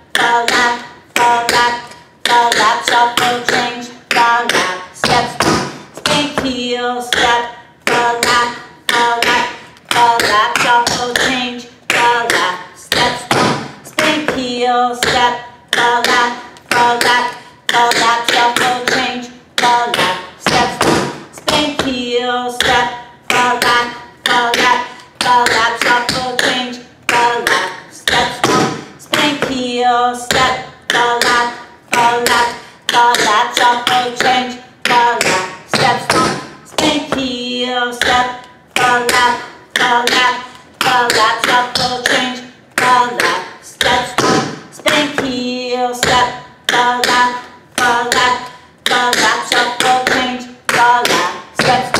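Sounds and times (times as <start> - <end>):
tap shoes on hard floor: 0.1 - 22.0, 22.6 - 29.6, 30.3 - 37.3, 38.0 - 45.4, 46.0 - 51.9.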